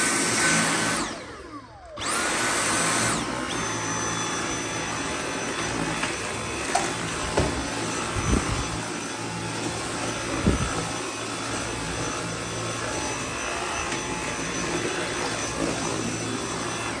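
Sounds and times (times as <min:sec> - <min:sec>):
stick vacuum running: 0:00.0 - 0:17.0.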